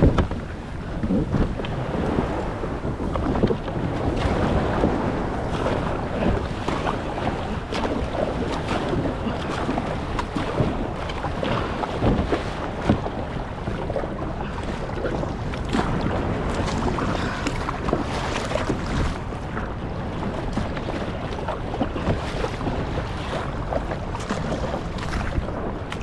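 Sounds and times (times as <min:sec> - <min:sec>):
sea water washing: 0:00.0 - 0:26.0
wind buffeting microphone: 0:00.0 - 0:26.0.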